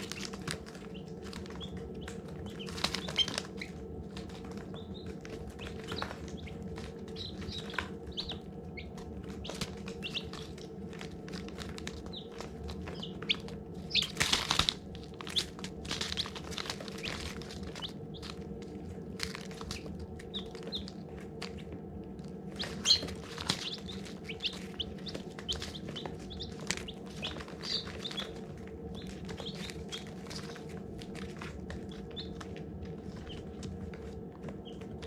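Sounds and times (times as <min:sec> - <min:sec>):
chicks peeping: 0:00.0 - 0:35.0
steady low hum: 0:00.0 - 0:35.0.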